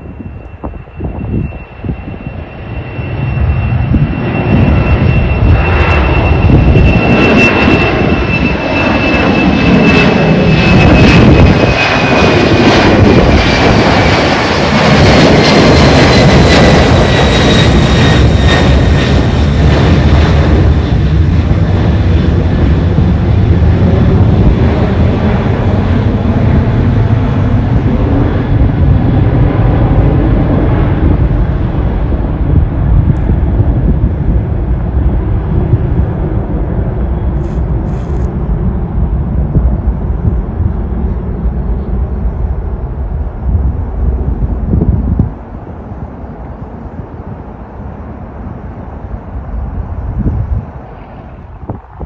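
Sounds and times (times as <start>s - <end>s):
jet airliner taking off: 0.0s - 52.0s.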